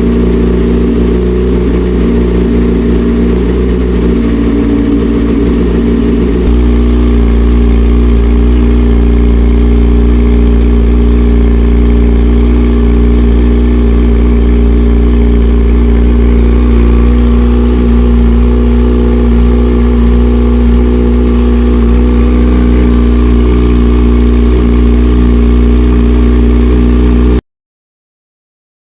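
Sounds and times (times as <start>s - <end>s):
motorcycle engine idling: 0.0s - 27.4s.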